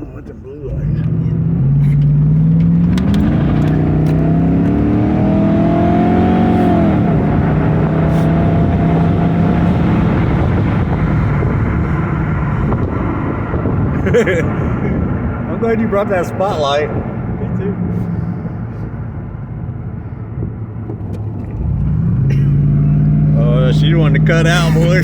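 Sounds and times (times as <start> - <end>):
car engine accelerating: 0.0 - 25.0
road noise: 0.0 - 25.0.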